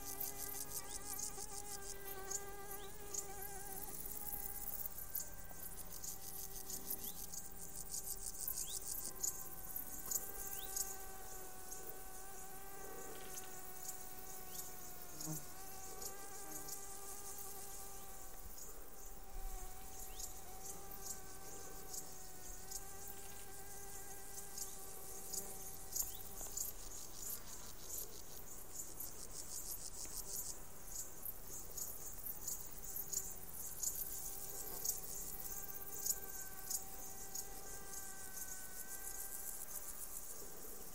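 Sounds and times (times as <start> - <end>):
grasshoppers and crickets chirping: 0.0 - 40.9
insect wings buzzing: 0.0 - 40.9.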